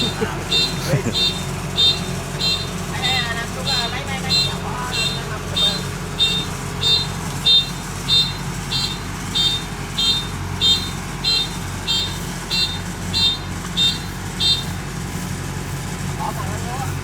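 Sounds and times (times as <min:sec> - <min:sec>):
high-pitched warning beeps: 0:00.0 - 0:15.0
engine running: 0:00.0 - 0:17.0.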